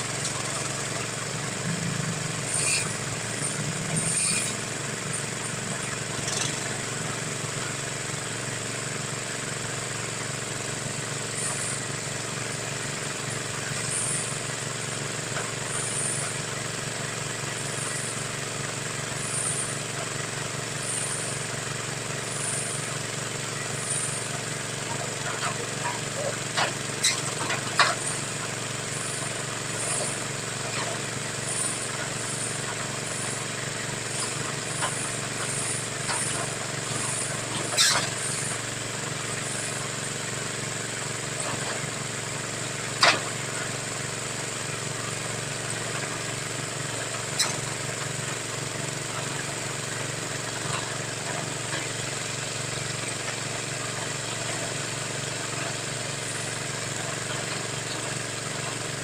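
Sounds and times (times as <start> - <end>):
drilling machine engine running: 0.0 - 59.0.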